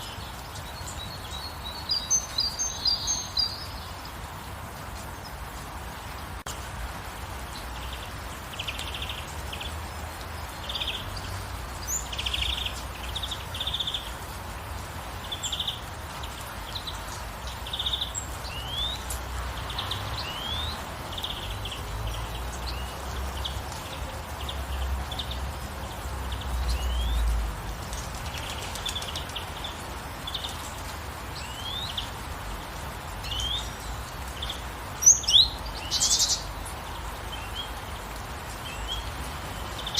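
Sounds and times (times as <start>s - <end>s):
light rain hiss: 0.0s - 39.9s
songbirds chirping: 0.0s - 39.9s.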